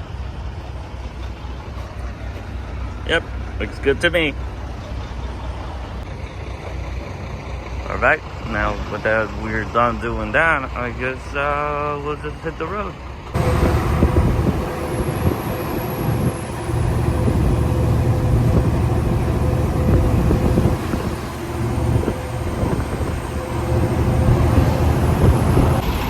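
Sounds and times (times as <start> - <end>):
road noise: 0.0 - 26.0
truck engine rumble: 0.0 - 26.0.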